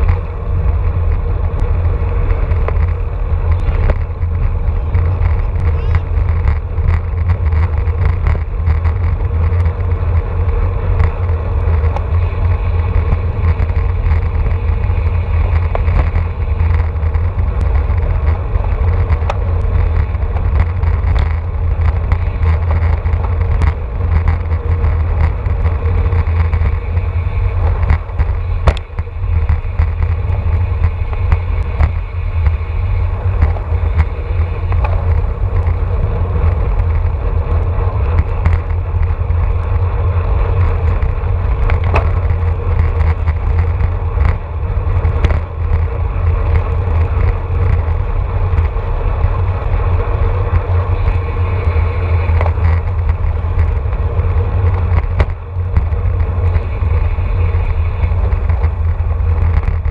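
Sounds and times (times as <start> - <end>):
tyre and road noise: 0.0 - 59.9
wind rumble on microphone: 0.0 - 59.9.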